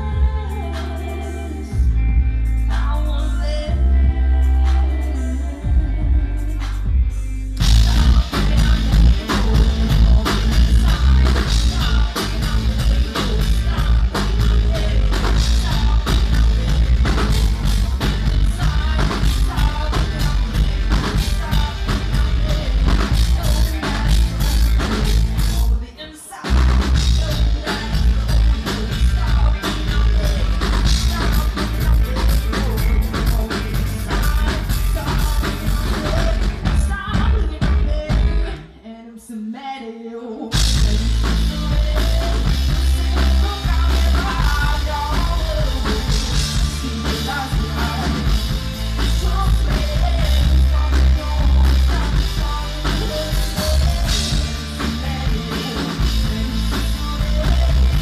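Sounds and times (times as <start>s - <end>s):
drum kit: 0.0s - 38.7s, 40.5s - 58.0s
bass guitar: 0.0s - 38.9s, 40.5s - 58.0s
electric guitar: 0.0s - 39.0s, 40.2s - 58.0s
woman singing: 0.0s - 58.0s.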